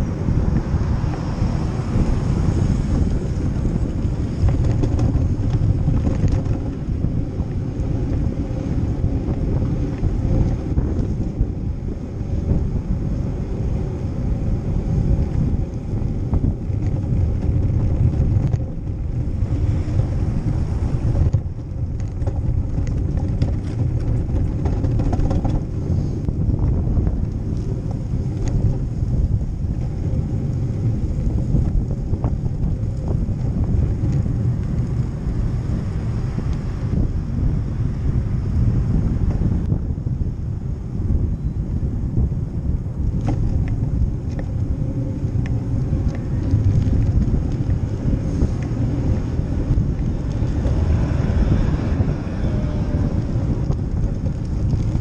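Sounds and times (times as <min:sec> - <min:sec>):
tyre noise on road: 0:00.0 - 0:55.0
wind buffeting microphone: 0:00.0 - 0:55.0.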